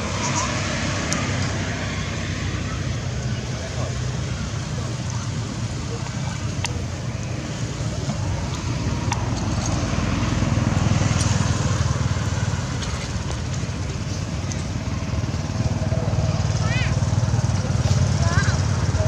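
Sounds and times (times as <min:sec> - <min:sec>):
motor traffic rumble: 0:00.0 - 0:19.0.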